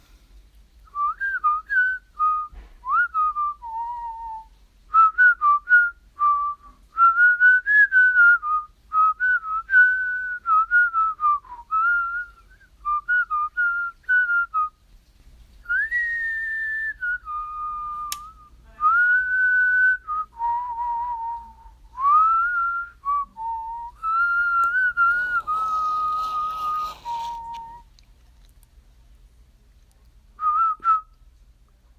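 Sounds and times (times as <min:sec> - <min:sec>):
person whistling a tune: 0:00.9 - 0:14.7, 0:15.6 - 0:27.9, 0:30.4 - 0:31.2.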